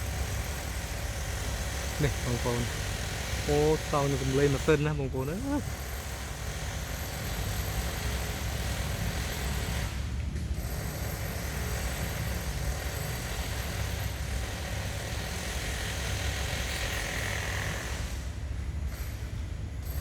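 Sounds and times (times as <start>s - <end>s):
small engine running: 0.0s - 18.3s.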